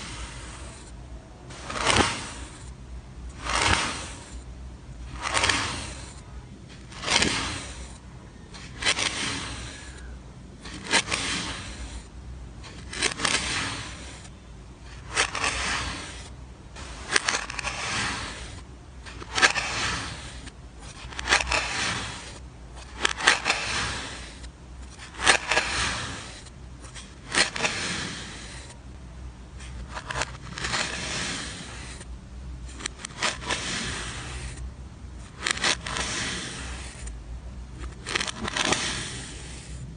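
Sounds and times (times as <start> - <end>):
blade scraping sand: 0.0 - 28.8, 29.6 - 37.2, 37.8 - 39.9.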